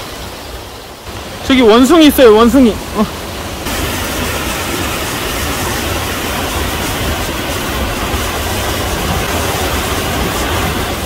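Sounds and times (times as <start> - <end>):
stream and waterfall rushing: 0.0 - 11.0.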